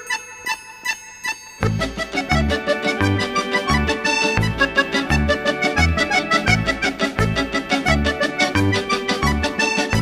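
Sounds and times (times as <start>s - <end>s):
upbeat music with keyboard melody: 0.0s - 10.0s.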